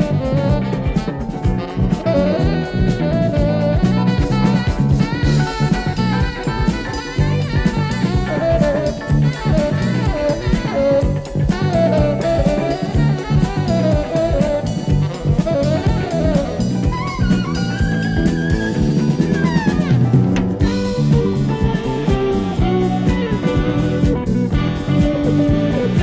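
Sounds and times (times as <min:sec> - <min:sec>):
jazz band playing: 0:00.0 - 0:26.0
saxophone lead melody: 0:00.0 - 0:26.0.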